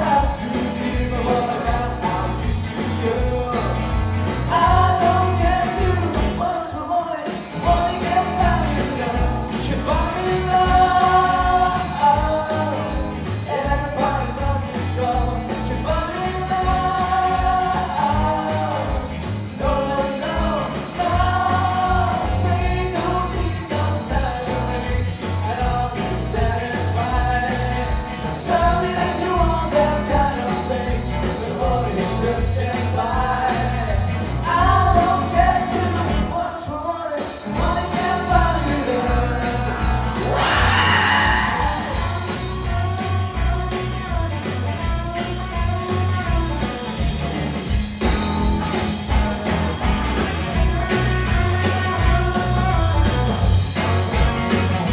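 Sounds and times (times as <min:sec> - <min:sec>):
person singing: 0:00.0 - 0:46.8, 0:50.5 - 0:53.5
drums: 0:00.0 - 0:54.9
electric guitars: 0:00.0 - 0:54.9.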